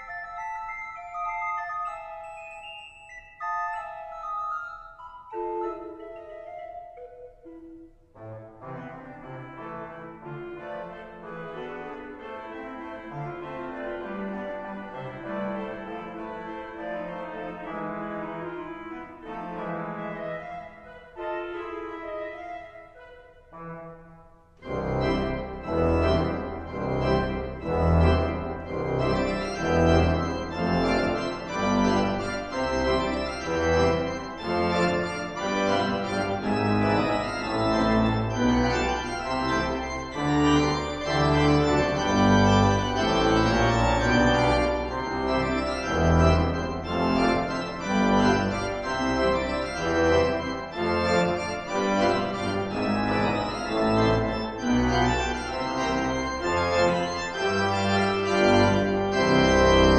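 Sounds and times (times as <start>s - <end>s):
pipe organ playing loud chords: 0.0s - 59.9s.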